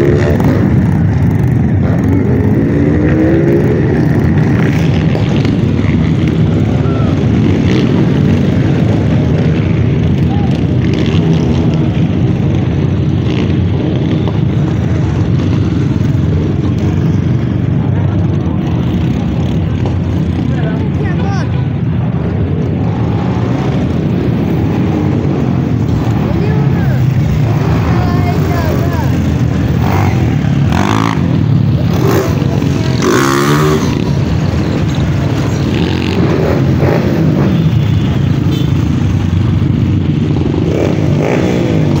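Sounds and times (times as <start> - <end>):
motorcycle engines running: 0.0 - 42.0
motorcycle revving: 0.0 - 42.0
vehicles driving past: 0.0 - 42.0.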